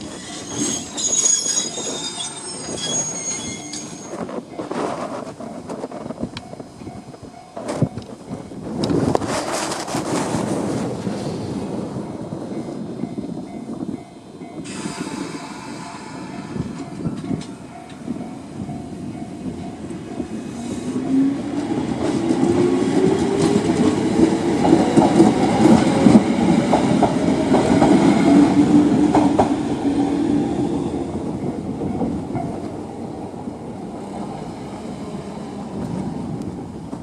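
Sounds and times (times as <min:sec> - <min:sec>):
electric train passing: 0:00.0 - 0:37.0.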